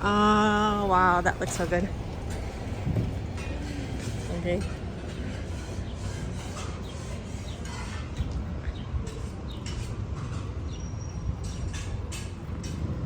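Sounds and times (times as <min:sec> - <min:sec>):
small birds chirping: 0:00.0 - 0:12.8
low rumble of street noise: 0:00.0 - 0:13.0.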